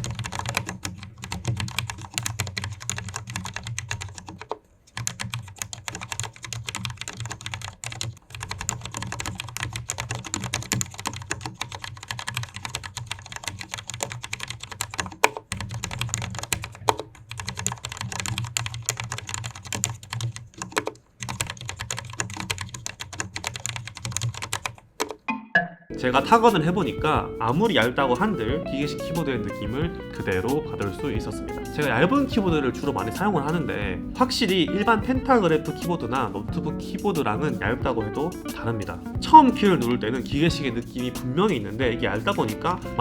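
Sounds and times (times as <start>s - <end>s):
fast typing on mechanical keyboard: 0.0s - 25.2s, 26.2s - 43.0s.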